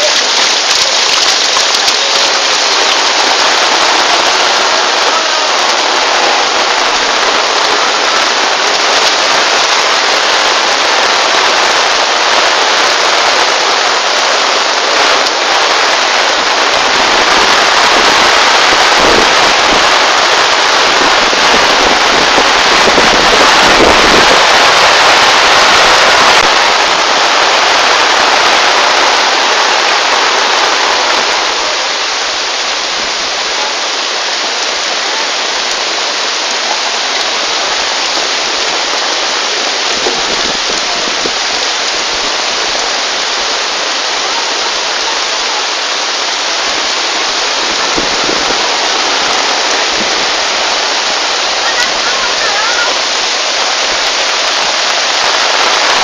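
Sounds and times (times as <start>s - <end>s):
floodwater running: 0.0s - 56.0s
heavy rain pouring: 0.0s - 56.0s.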